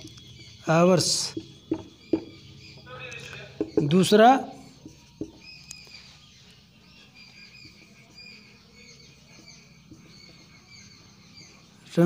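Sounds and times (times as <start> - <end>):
marker squeaking on whiteboard: 1.3 - 11.0.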